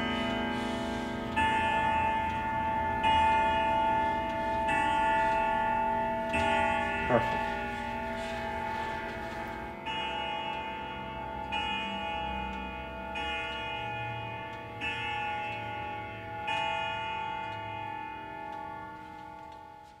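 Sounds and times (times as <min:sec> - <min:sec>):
clock striking ringing strokes: 0:00.0 - 0:20.0.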